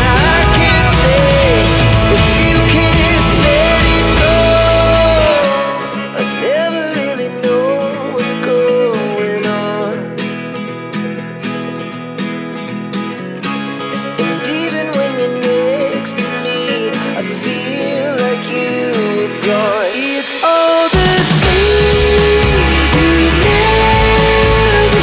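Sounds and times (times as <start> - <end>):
acoustic guitar song with singing: 0.0 - 25.0.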